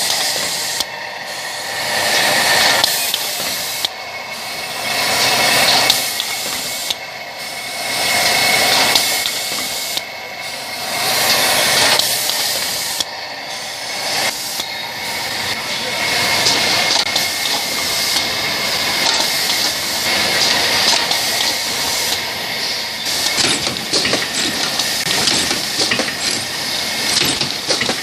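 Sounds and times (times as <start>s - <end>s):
machine hissing: 0.0s - 28.0s.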